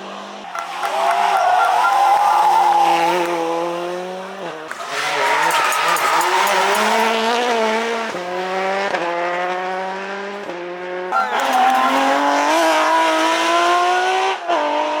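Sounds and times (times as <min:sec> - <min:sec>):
rally car engine revving: 0:01.8 - 0:15.0.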